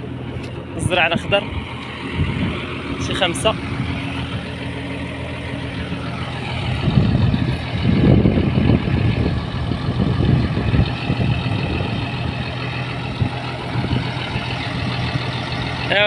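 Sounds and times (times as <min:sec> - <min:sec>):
combine harvester engine running: 0:00.0 - 0:16.0
heavy rough rumble: 0:00.0 - 0:16.0.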